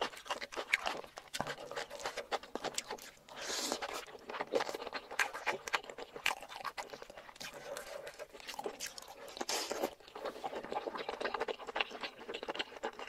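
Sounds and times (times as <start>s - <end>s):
wet chewing and smacking: 0.0s - 13.0s.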